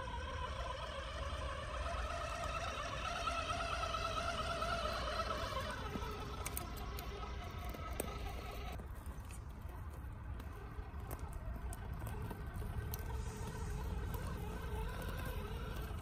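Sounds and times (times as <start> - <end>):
electric motor whining: 0.0 - 8.8, 9.4 - 16.0.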